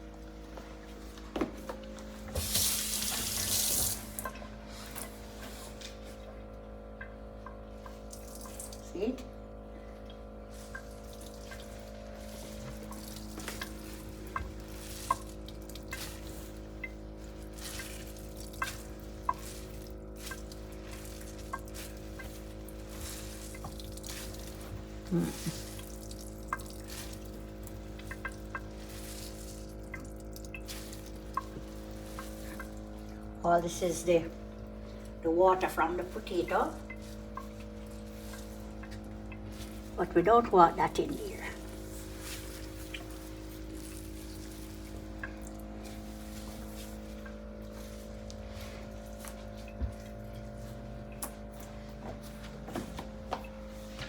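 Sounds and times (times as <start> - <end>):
small drips: 0.0 - 54.0
steady hum: 0.0 - 54.0
water splashing into a bowl: 7.0 - 9.4, 10.1 - 52.4.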